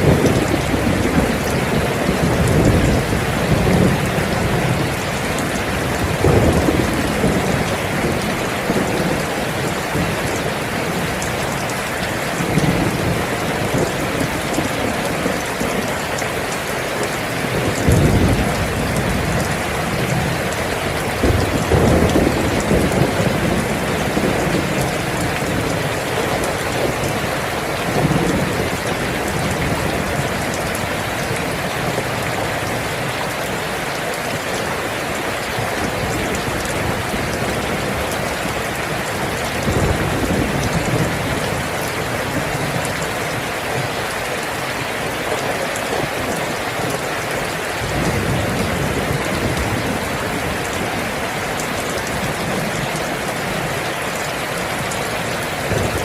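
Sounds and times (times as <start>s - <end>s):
thunder rumbling: 0.0s - 33.6s, 35.8s - 43.9s, 47.7s - 53.8s, 54.8s - 56.0s
steady rain falling: 0.0s - 56.0s.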